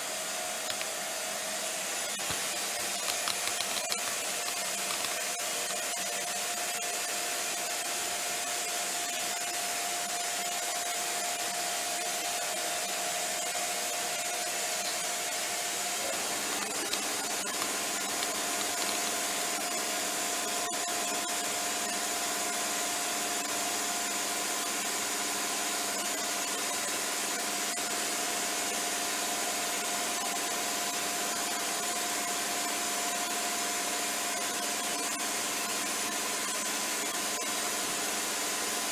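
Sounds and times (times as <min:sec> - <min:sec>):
machine whine: 0:00.0 - 0:38.9.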